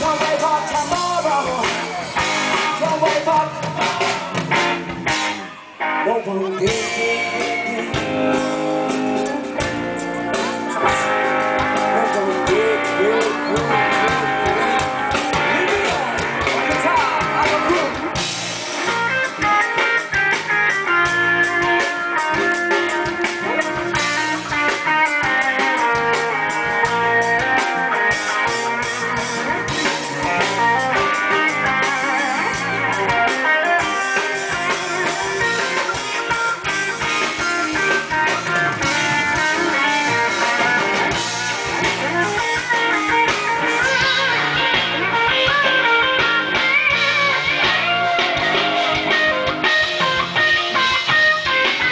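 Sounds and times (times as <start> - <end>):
bass guitar: 0.0 - 51.9
drums: 0.0 - 51.9
electric guitar: 0.0 - 51.9.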